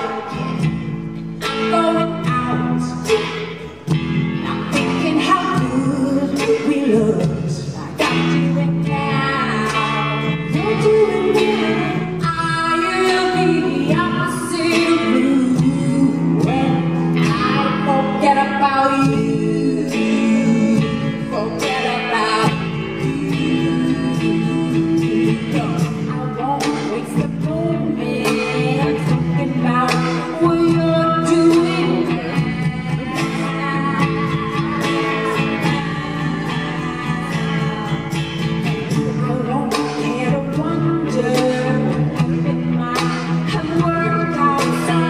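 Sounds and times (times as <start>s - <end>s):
electric guitar: 0.0s - 45.0s
woman singing into a microphone: 0.0s - 45.0s.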